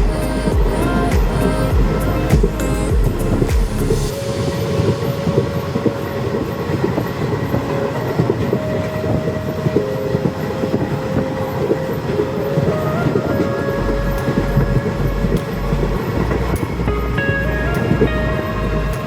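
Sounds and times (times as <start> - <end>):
steady whine: 0.0 - 19.0.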